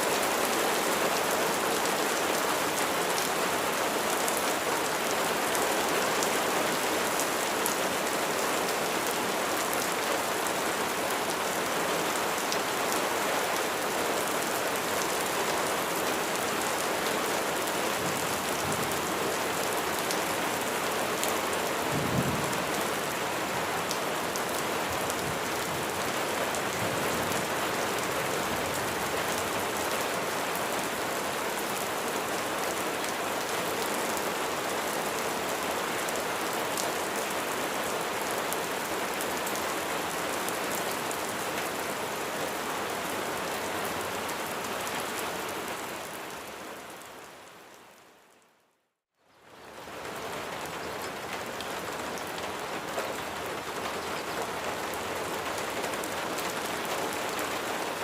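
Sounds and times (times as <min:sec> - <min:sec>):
heavy rain falling: 0:00.0 - 0:47.4, 0:49.5 - 0:58.0.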